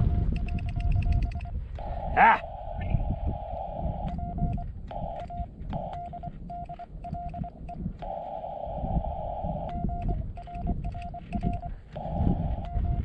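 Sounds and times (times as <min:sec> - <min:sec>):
morse code dits: 0:00.0 - 0:13.0
receiver hiss: 0:00.0 - 0:13.0.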